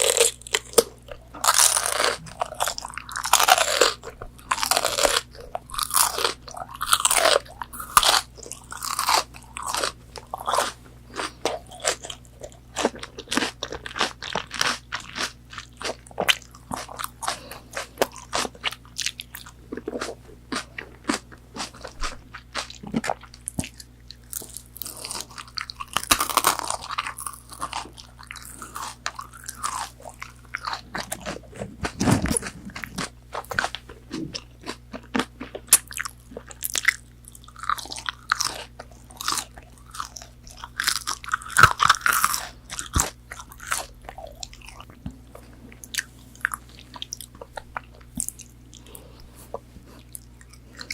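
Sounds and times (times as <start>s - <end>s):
crunchy chewing of fried food: 0.0s - 50.9s.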